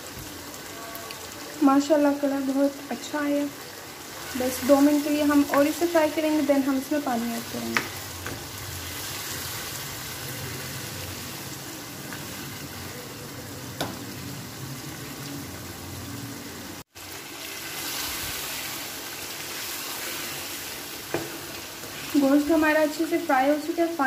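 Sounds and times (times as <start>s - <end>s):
food sizzling in a pan: 0.0s - 24.0s.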